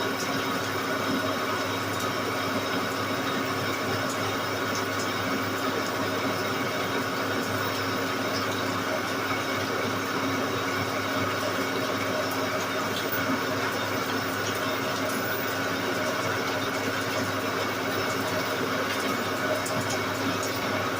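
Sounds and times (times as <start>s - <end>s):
lathe motor and gearbox hum: 0.0s - 20.9s.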